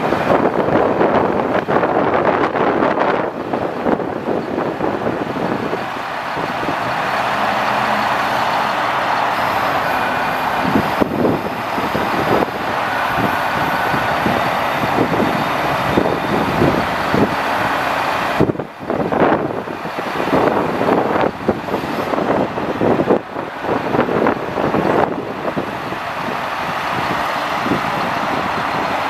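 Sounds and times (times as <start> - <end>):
diesel engine running: 0.0 - 29.0
wind hitting microphone: 0.0 - 29.0.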